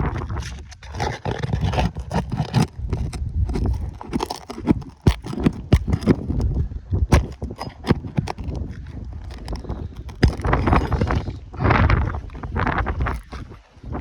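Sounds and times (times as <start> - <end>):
tool scraping roof shingles: 0.0 - 13.6.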